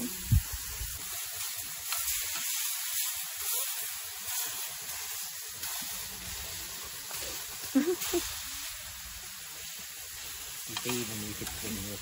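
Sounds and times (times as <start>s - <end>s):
steaks sizzling on a metal griddle: 0.0s - 12.0s.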